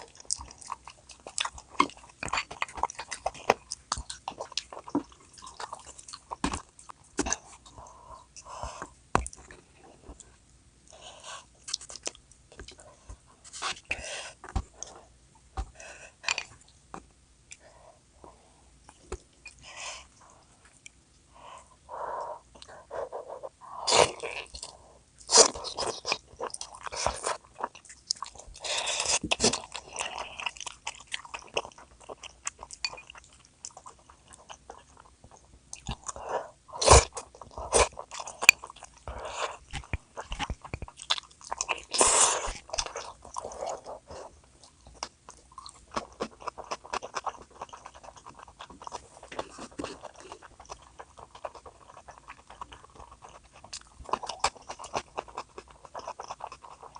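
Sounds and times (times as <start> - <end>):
person chewing with wet mouth sounds: 0.0 - 17.7, 18.8 - 56.9.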